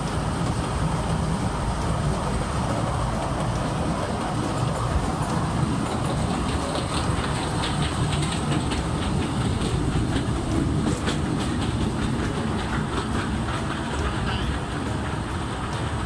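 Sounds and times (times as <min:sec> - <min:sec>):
train rumbling on track: 0:00.0 - 0:16.0
wheels clicking over rails: 0:00.0 - 0:16.0.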